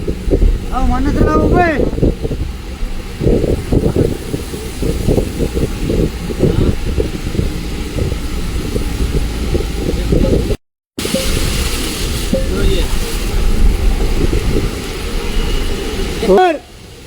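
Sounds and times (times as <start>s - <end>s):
bus engine running: 0.0s - 17.0s
bus rattling: 0.0s - 17.0s.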